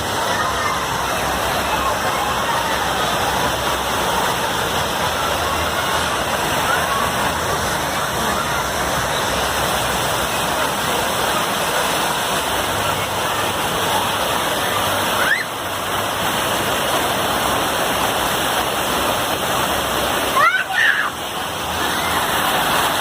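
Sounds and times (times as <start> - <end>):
faint voices: 0.0 - 23.0
water falling and splashing: 0.0 - 23.0.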